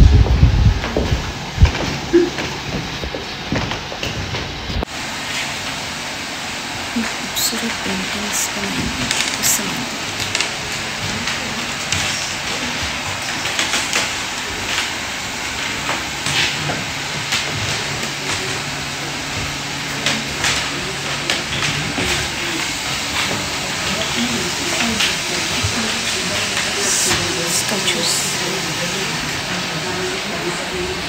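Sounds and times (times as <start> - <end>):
noisy background: 0.0 - 31.0.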